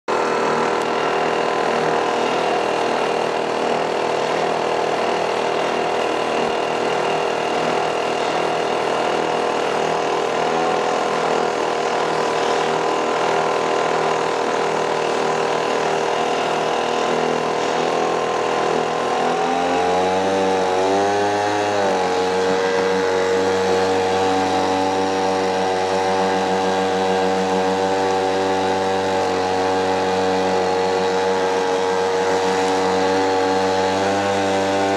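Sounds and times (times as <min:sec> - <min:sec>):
two-stroke boat motor running: 0:00.1 - 0:34.9.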